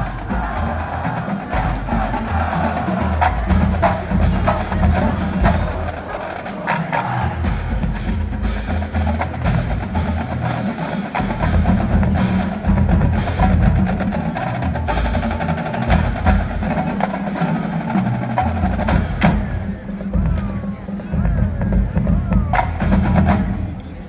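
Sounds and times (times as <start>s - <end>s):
low drumming: 0.0s - 24.0s
marching band percussion: 0.0s - 24.0s.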